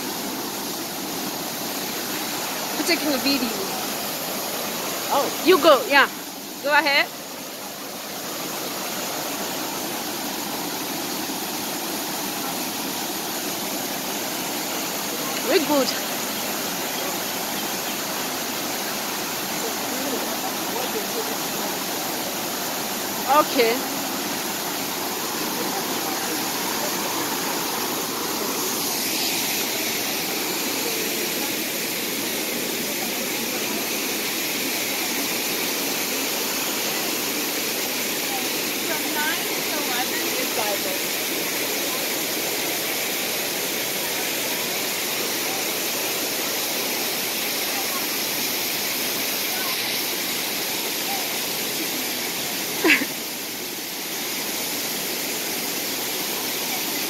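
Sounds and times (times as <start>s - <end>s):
waterfall pouring over rocks: 0.0s - 57.0s.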